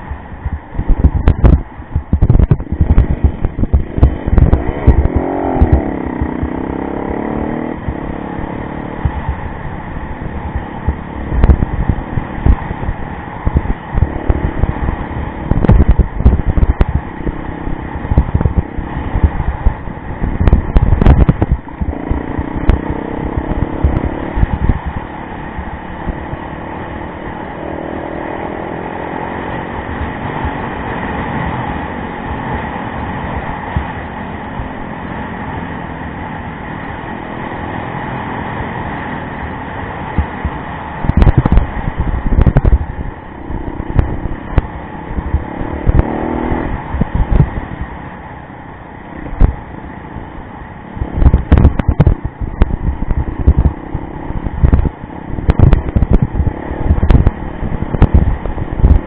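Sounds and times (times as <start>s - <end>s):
low thumps and buffeting: 0.0s - 59.0s
motorcycle engine revving: 0.0s - 59.0s.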